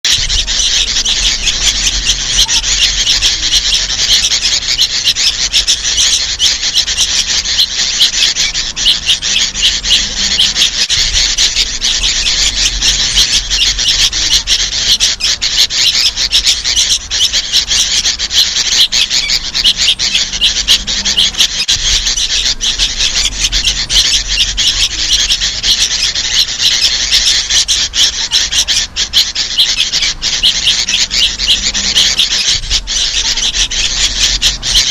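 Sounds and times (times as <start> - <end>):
birds chattering calls: 0.0 - 34.9.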